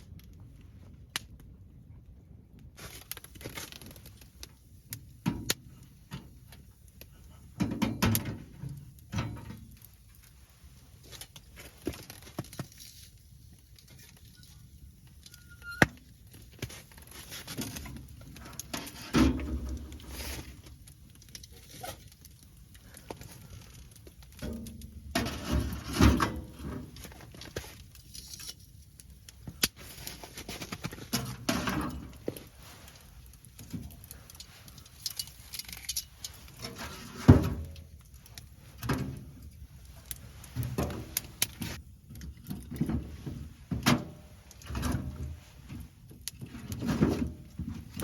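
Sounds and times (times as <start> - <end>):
objects being handled: 6.0 - 48.0.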